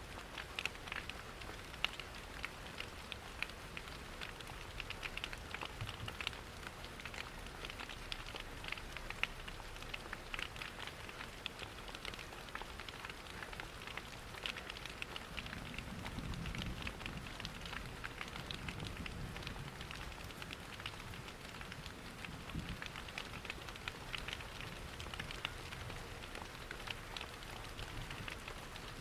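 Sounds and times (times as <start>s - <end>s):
crackling wood fire: 0.0s - 29.0s
rain pattering: 0.0s - 29.0s.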